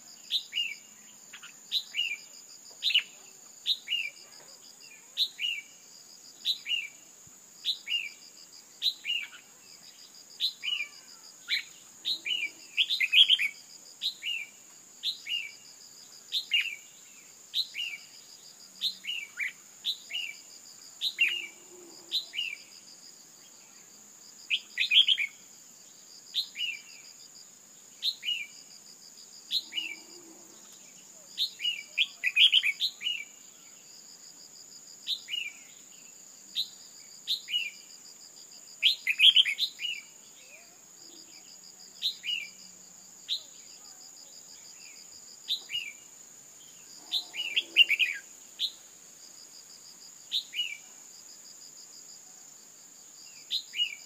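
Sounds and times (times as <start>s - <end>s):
high insect buzz: 0.0s - 54.0s.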